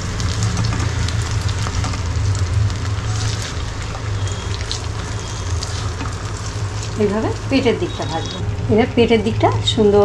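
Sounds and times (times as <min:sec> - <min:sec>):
fish frying in sizzling oil: 0:00.0 - 0:10.0.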